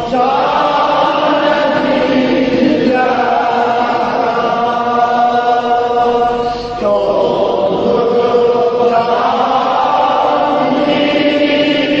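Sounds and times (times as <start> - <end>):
man chanting long held notes: 0.0 - 12.0.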